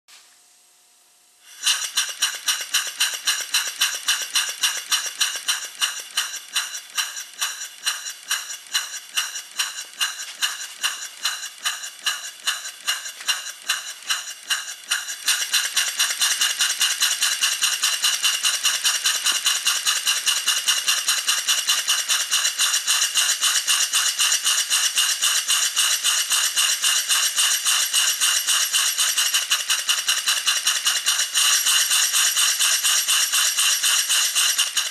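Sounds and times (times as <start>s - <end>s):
steam engine hissing chuffs: 1.4s - 34.9s.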